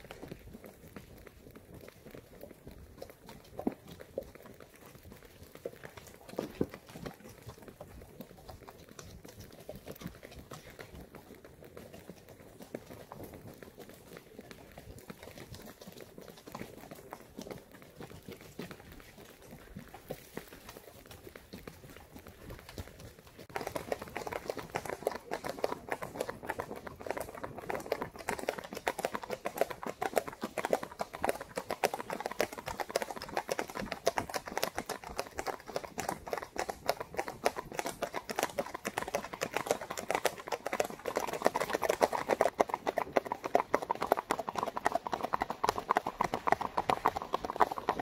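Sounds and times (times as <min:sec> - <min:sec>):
horse hoofbeats clip-clop: 0:00.0 - 0:48.0.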